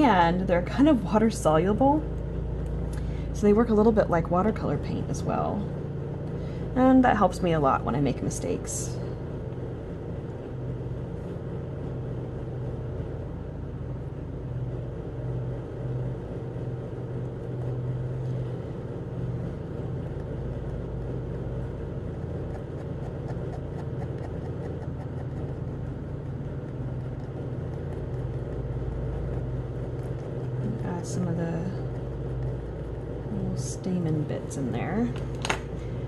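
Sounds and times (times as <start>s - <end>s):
electric fan humming: 0.0s - 36.0s.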